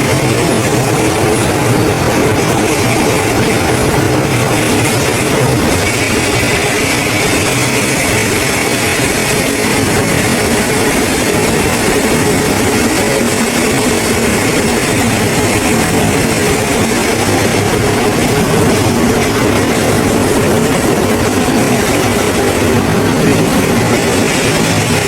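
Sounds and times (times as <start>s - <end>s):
heavy machinery running: 0.0s - 25.0s.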